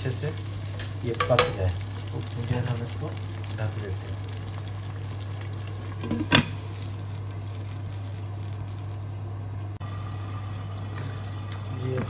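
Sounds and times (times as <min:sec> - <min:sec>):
pot simmering: 0:00.0 - 0:12.0
steady low hum: 0:00.0 - 0:12.0.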